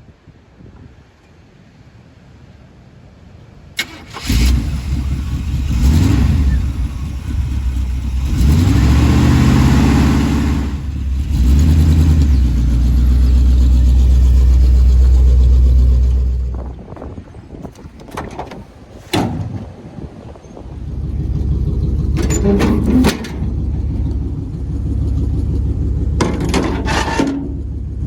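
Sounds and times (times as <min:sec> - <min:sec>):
truck engine starting and revving: 0:03.8 - 0:28.0.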